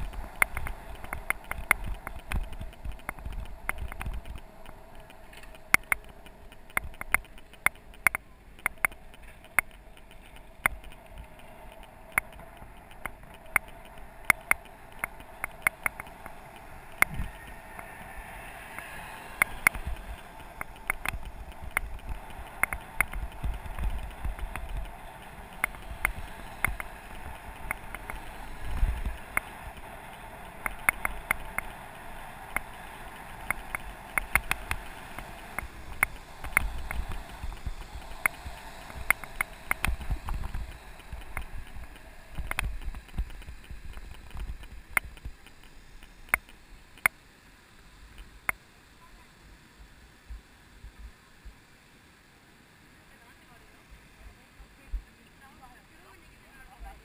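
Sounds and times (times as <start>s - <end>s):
bicycle clicks and rattles: 0.0s - 47.1s
wind and tyre noise: 0.0s - 57.0s.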